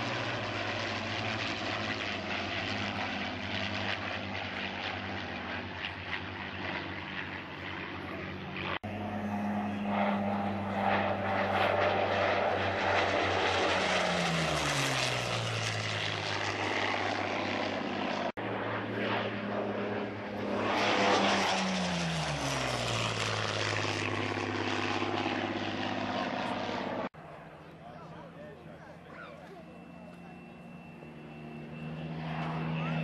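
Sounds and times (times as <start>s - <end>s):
propeller plane flypast: 0.0s - 33.0s.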